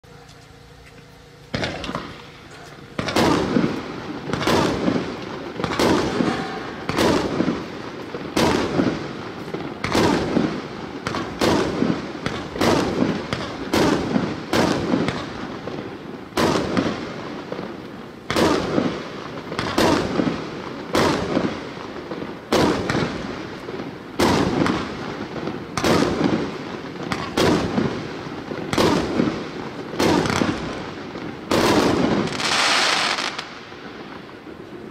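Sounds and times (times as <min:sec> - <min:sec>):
fireworks shots and bursts: 0:00.6 - 0:34.9.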